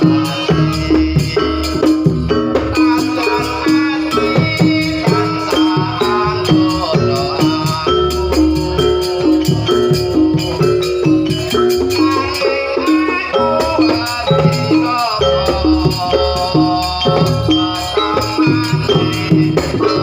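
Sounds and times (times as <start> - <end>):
horse-dance music: 0.0 - 20.0.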